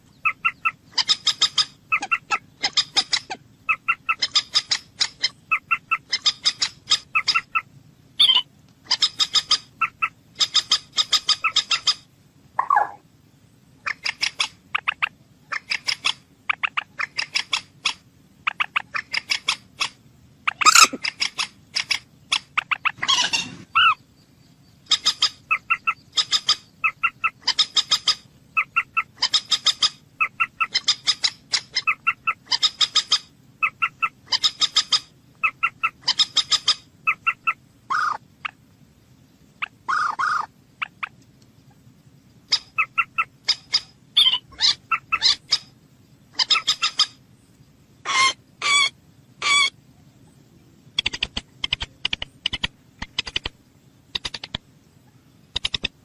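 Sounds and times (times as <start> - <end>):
moorhen clucking: 0.0 - 13.0, 13.8 - 24.1, 24.8 - 38.7, 39.6 - 47.2, 48.0 - 49.8
moorhen harsh calls: 0.1 - 13.0, 13.8 - 24.1, 24.9 - 38.6, 39.6 - 41.8, 42.5 - 45.7, 46.3 - 47.2, 48.0 - 49.8.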